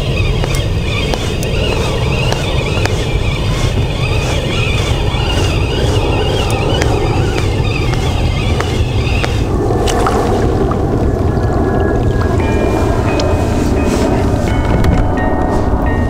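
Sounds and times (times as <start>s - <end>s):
continuous low rumble: 0.0s - 16.0s.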